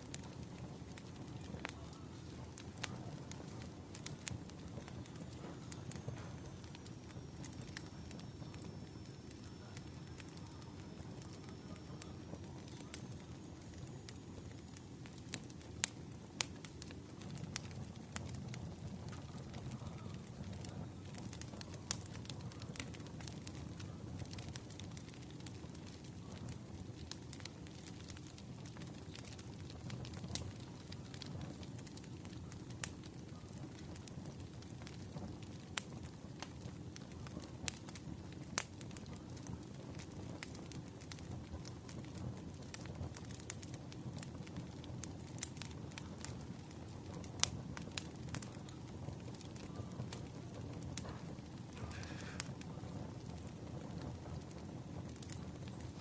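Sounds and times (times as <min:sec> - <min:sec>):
low fire rumble: 0:00.0 - 0:56.0
wood fire crackling and popping: 0:00.0 - 0:56.0.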